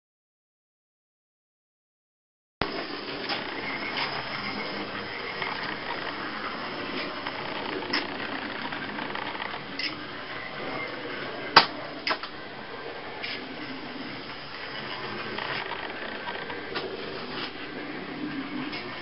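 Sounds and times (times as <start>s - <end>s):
small electric motor whirring: 2.7s - 19.0s.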